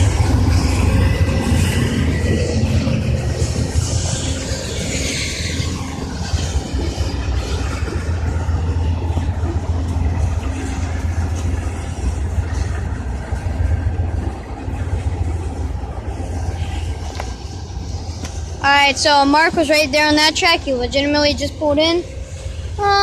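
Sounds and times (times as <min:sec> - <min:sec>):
diesel locomotive engines droning: 0:00.0 - 0:23.0.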